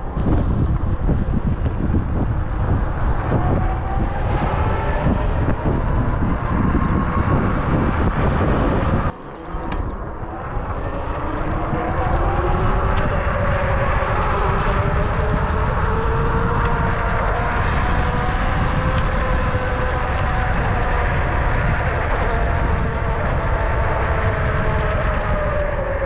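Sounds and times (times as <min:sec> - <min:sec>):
road rumble: 0:00.0 - 0:26.0
wind buffeting: 0:00.0 - 0:26.0.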